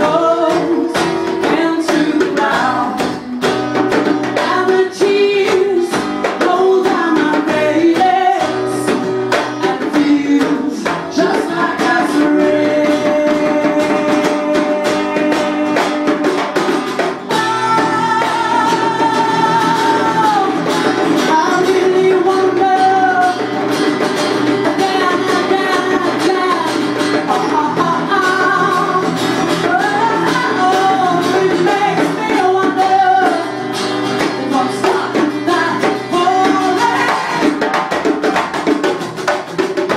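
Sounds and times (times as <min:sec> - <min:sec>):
woman singing: 0:00.0 - 0:03.5, 0:04.2 - 0:23.7, 0:24.5 - 0:37.9
acoustic guitar: 0:00.0 - 0:39.9
djembe hand drums: 0:00.0 - 0:39.9.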